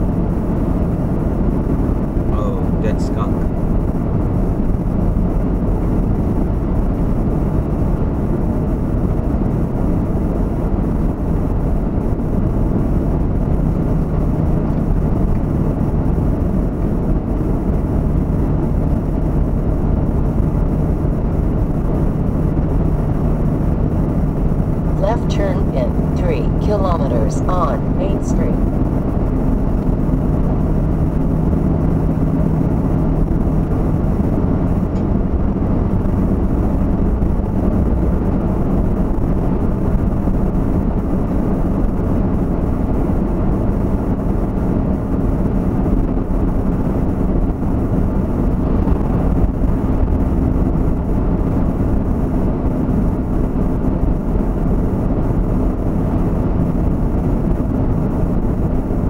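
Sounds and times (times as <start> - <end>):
vehicle road and engine rumble: 0.0 - 59.0.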